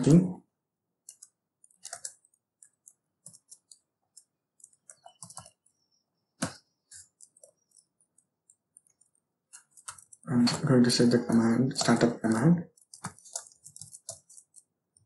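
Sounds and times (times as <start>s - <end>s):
computer keyboard typing: 1.0s - 15.0s.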